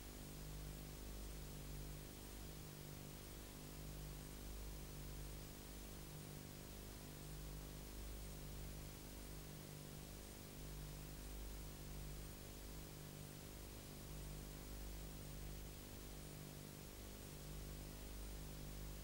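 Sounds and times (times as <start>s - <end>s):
faint steady hiss: 0.0s - 19.0s
low electrical hum: 0.0s - 19.0s.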